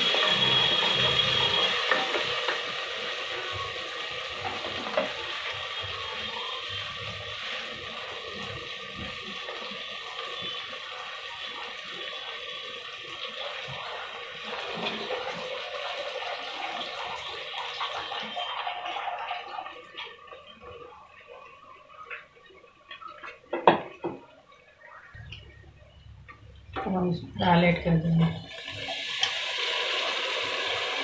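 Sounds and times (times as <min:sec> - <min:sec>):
onions sizzling in oil: 0:00.0 - 0:22.2, 0:27.5 - 0:31.0.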